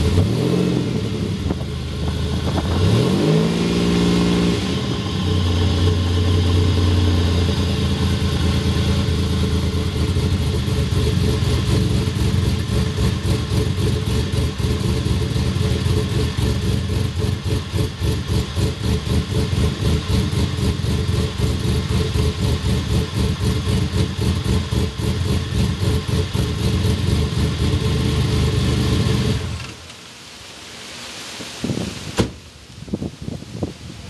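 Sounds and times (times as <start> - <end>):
car engine idling: 0.0 - 3.0, 4.4 - 29.9.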